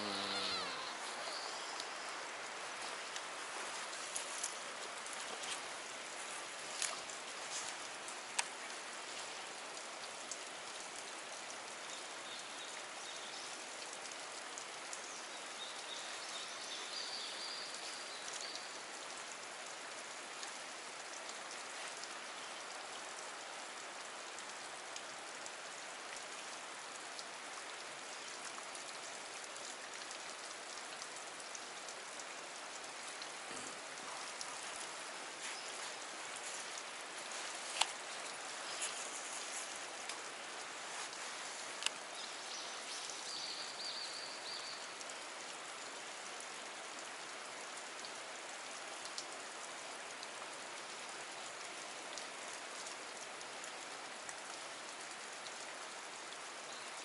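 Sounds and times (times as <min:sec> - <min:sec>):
creek water running over rock: 0:00.0 - 0:57.0.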